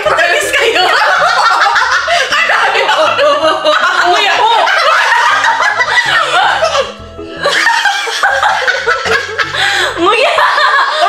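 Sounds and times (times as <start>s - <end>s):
background music with bass: 0.0s - 10.9s
women laughing and talking: 0.0s - 11.0s.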